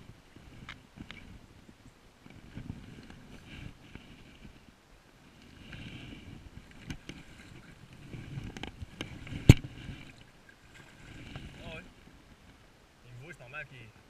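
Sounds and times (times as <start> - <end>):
river water rumbling and sloshing: 0.0 - 14.0.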